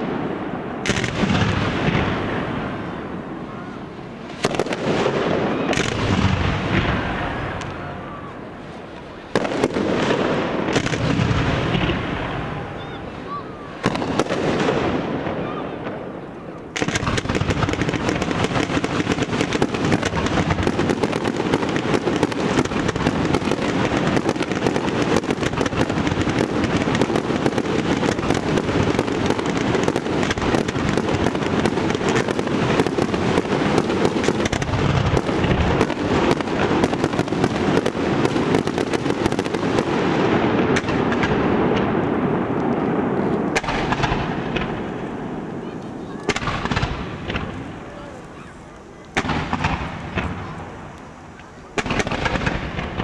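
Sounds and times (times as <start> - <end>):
fireworks crackling and banging: 0.0 - 53.0.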